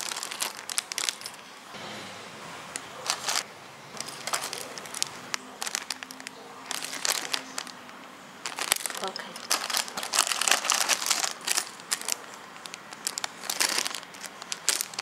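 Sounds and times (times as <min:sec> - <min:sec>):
small plastic pieces shifting: 0:00.0 - 0:01.4, 0:03.0 - 0:03.4, 0:04.0 - 0:15.0
plastic bags crinkling: 0:00.0 - 0:01.6, 0:02.9 - 0:15.0.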